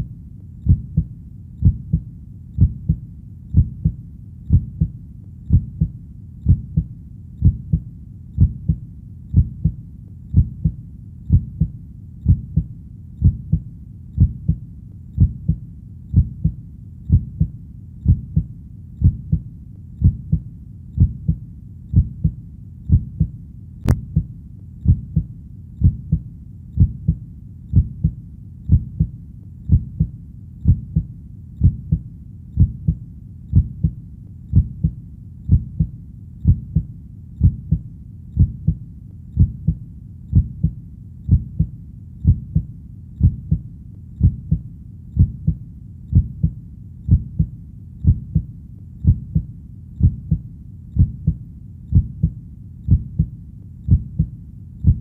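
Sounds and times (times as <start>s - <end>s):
heartbeat double thumps: 0.0s - 14.6s, 15.2s - 38.8s, 39.4s - 55.0s.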